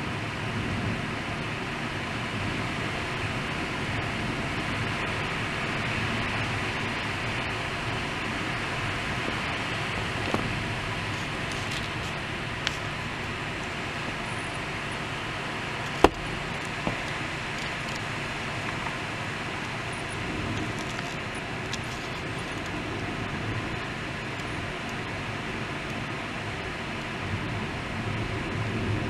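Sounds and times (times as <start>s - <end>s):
heavy rain: 0.0s - 29.0s
wind gusting through trees: 0.0s - 29.0s.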